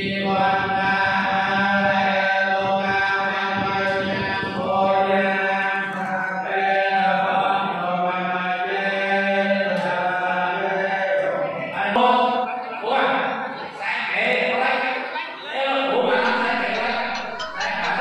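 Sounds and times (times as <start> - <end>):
monks chanting in low voices: 0.0 - 18.0.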